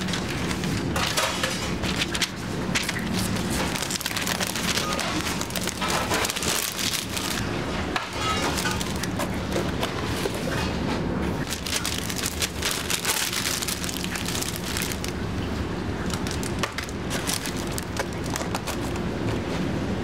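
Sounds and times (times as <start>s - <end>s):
paper wrapper crinkling: 0.0s - 10.4s, 11.3s - 19.4s.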